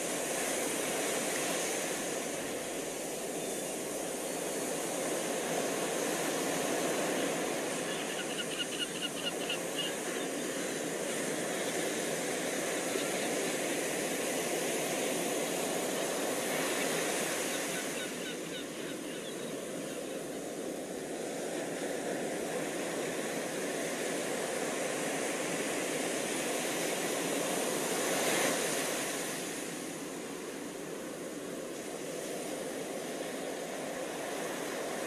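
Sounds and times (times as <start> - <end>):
rushing water background noise: 0.0 - 35.0.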